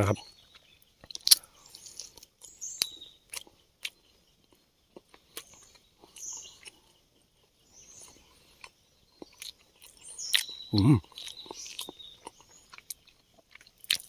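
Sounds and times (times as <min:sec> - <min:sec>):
person chewing food: 0:00.3 - 0:14.0.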